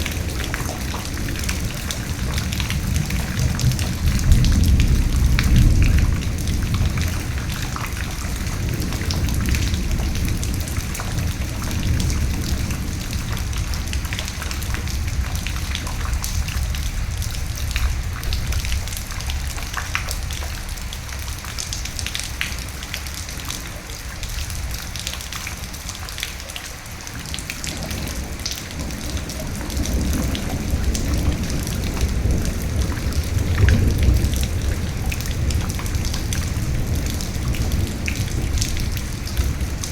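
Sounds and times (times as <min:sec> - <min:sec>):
thunder rumble: 0:00.0 - 0:23.4, 0:27.2 - 0:39.9
heavy rain: 0:00.0 - 0:39.9.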